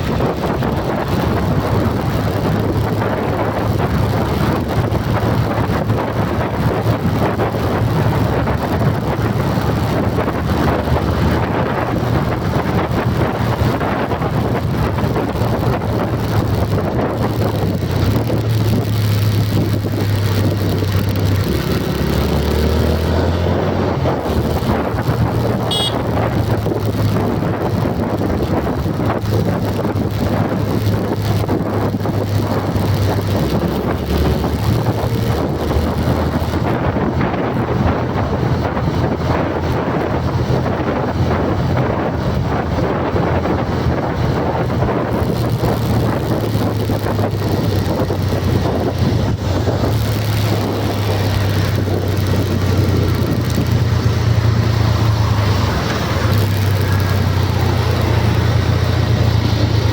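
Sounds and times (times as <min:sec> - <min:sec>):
road and wind noise: 0:00.0 - 0:59.9
vehicle engine drone: 0:00.0 - 0:59.9.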